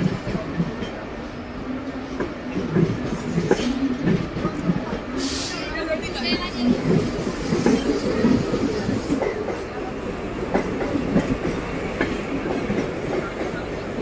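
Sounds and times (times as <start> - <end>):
train coaches rumbling: 0.0 - 14.0.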